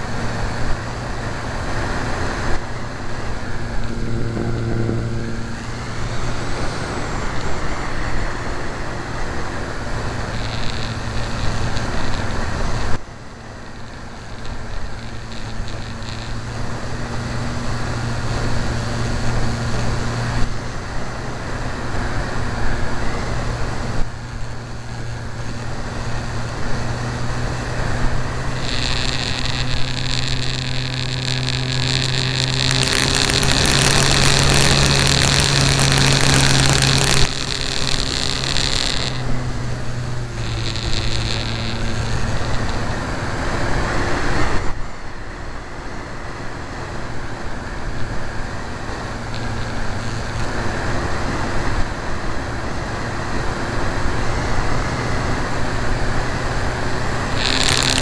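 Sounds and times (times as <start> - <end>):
high motor whine: 0.0 - 58.0
model aircraft motor drone: 0.0 - 58.0.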